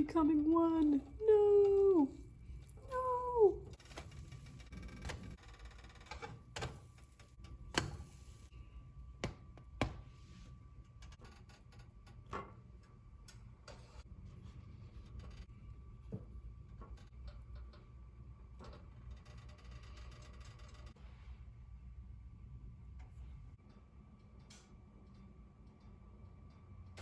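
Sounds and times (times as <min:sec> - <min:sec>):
low steady hum: 0:00.0 - 0:05.4, 0:06.3 - 0:27.0.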